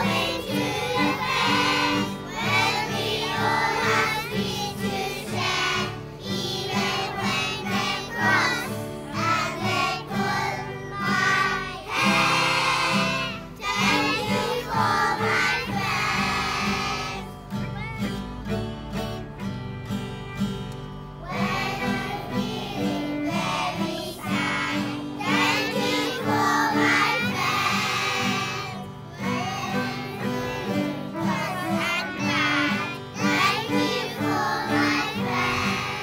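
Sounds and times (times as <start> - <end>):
children singing in unison: 0.0 - 17.4, 21.2 - 36.0
acoustic guitar: 0.0 - 36.0.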